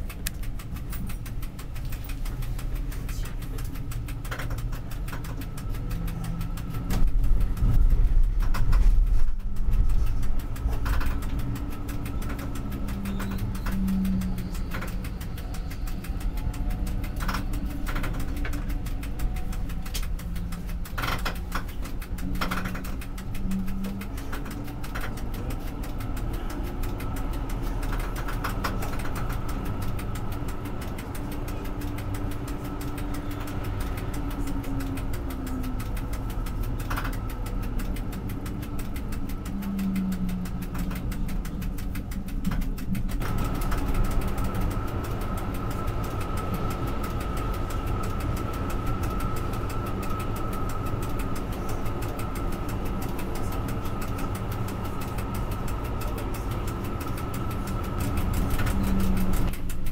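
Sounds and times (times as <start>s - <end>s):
bus engine droning: 0.0s - 59.9s
road rumble: 0.0s - 59.9s
thin steady whine: 0.0s - 59.9s.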